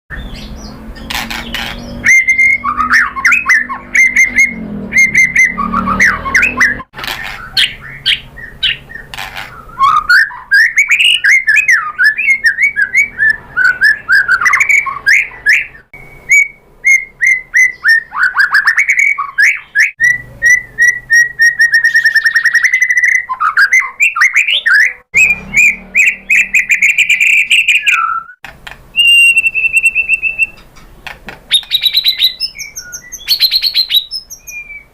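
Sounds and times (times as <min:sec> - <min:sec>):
songbird singing loudly: 0:00.1 - 0:30.8, 0:31.5 - 0:34.9.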